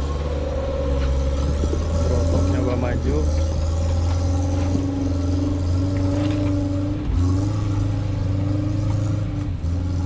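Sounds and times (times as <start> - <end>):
off-road engine revving: 0.0 - 10.0.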